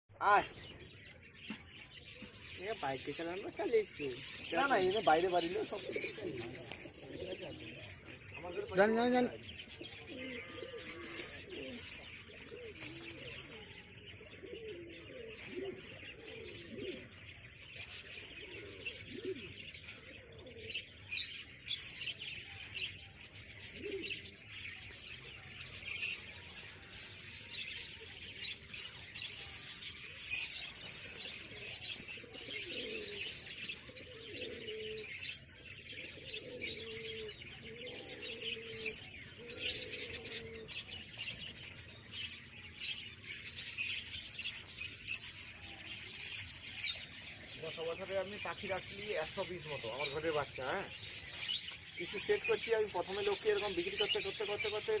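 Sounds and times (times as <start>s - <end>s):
small birds chirping: 0.0s - 55.0s
pigeons cooing: 0.3s - 55.0s.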